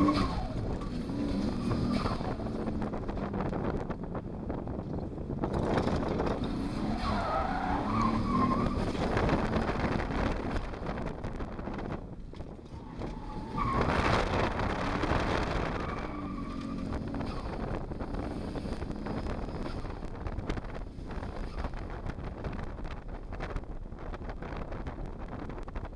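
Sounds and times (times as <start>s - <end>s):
car engine under hard driving: 0.0s - 25.9s.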